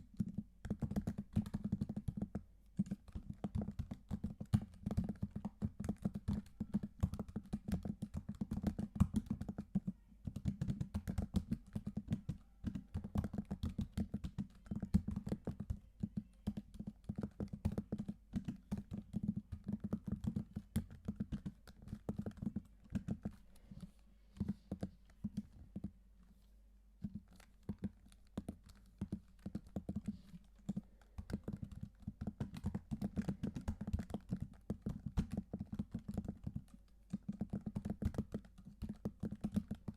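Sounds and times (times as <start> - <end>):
typing on keyboard: 0.0 - 23.4, 27.0 - 39.9.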